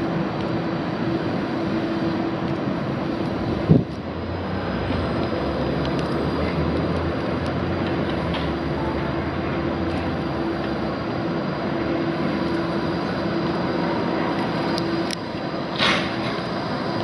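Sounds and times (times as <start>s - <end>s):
street and traffic noise: 0.0s - 17.0s
tram drive humming: 0.0s - 17.0s.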